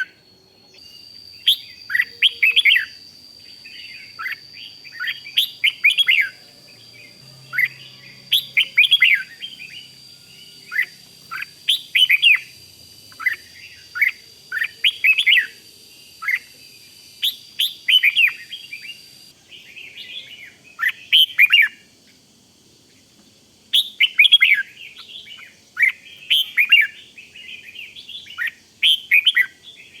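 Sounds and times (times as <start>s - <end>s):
bird singing warbled phrases: 0.0s - 22.2s, 23.8s - 30.0s.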